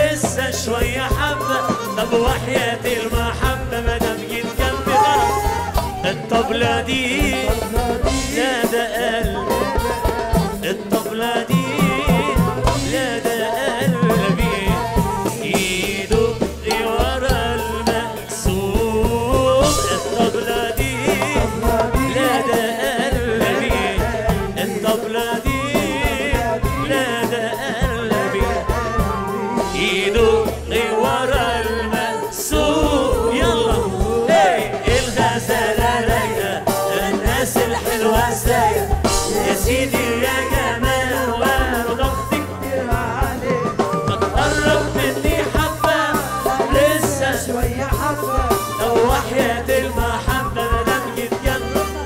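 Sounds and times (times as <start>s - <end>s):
hand percussion with jingling drums: 0.0s - 52.0s
person singing: 0.0s - 52.0s.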